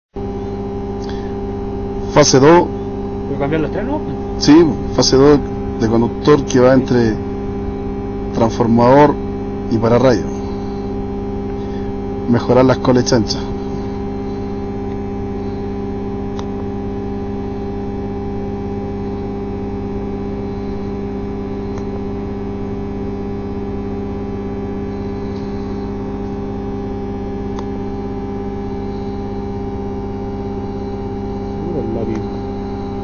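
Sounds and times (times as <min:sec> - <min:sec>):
electrical hum: 0:00.2 - 0:33.0.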